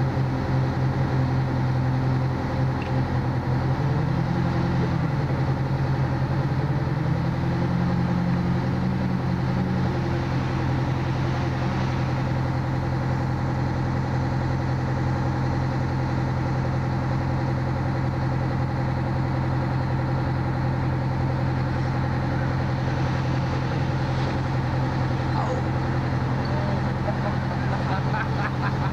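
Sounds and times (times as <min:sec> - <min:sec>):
fire engine idling hum: 0:00.0 - 0:28.9
higher engine hum: 0:00.0 - 0:28.9.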